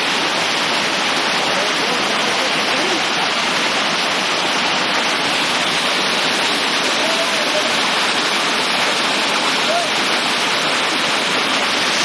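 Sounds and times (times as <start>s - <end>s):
heavy rain into water: 0.0s - 12.0s.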